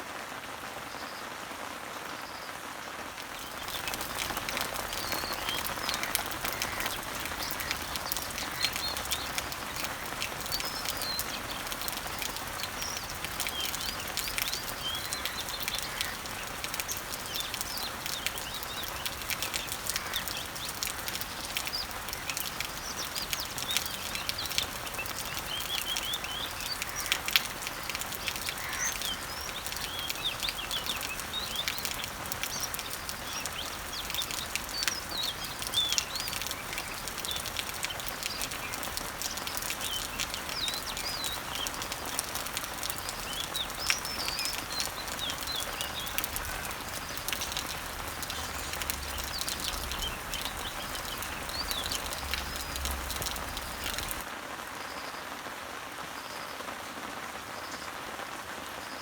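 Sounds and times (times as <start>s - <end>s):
rain pattering on leaves: 0.0s - 59.0s
birds chirping: 2.0s - 54.3s.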